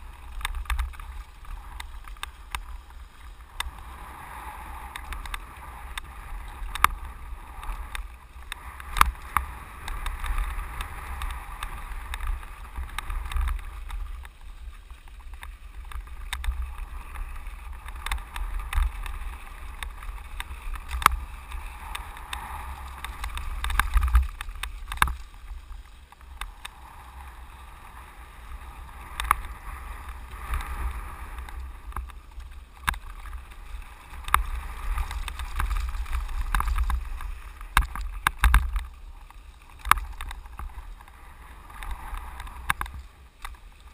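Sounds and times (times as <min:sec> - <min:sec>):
bike knocking and rattling: 0:00.0 - 0:03.8, 0:04.9 - 0:26.8, 0:29.1 - 0:43.9
tyres crunching over gravel: 0:04.7 - 0:43.9.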